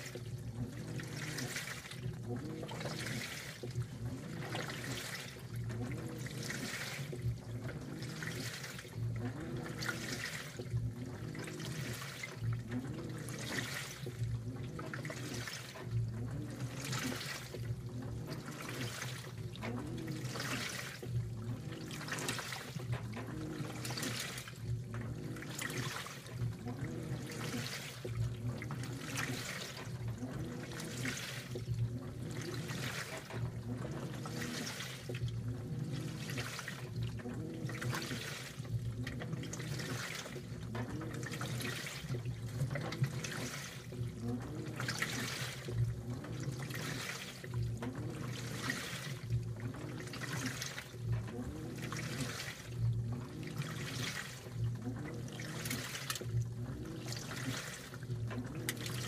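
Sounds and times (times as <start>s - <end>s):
washer motor whine: 0.0s - 59.0s
water sloshing in washer: 0.0s - 59.0s.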